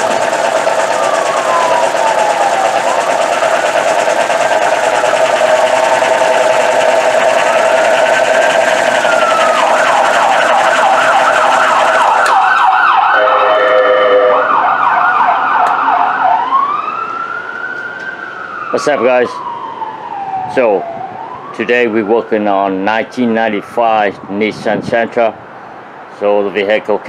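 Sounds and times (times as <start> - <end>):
emergency vehicle siren: 0.0 - 26.0.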